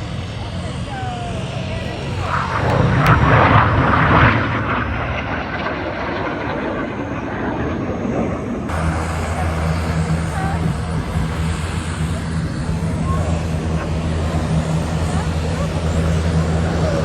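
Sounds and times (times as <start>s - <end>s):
jet engines flying by: 0.0s - 17.0s
steady low hum: 0.0s - 17.0s.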